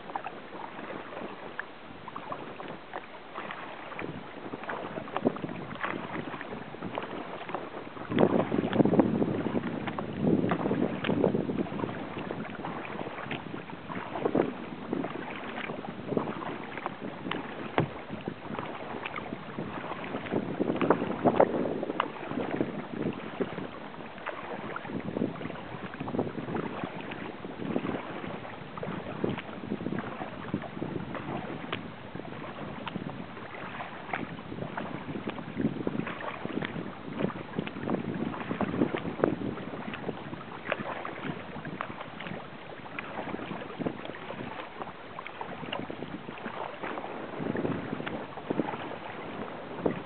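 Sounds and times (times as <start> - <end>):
paddle splashing: 0.0 - 50.0
water lapping at hull: 0.0 - 50.0
wind on microphone: 0.0 - 50.0.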